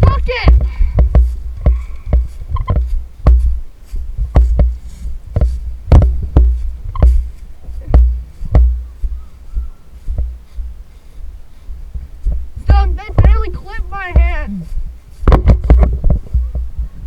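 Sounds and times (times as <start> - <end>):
footsteps and jolts: 0.0 - 16.6.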